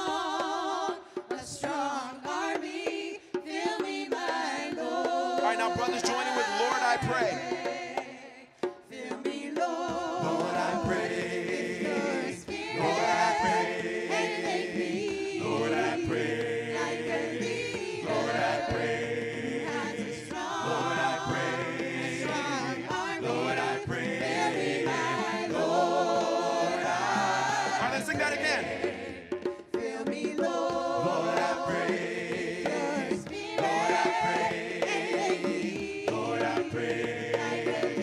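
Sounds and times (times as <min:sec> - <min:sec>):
choir singing a cappella: 0:00.0 - 0:38.0.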